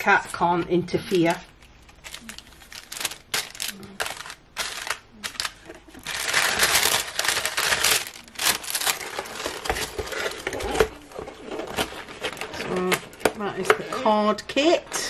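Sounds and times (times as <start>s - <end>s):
paper and plastic rustling: 0.0s - 14.1s.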